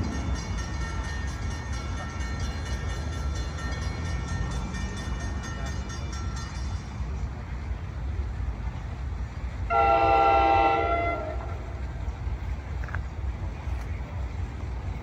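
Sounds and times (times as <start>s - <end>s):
distant train rumbling: 0.0s - 15.0s.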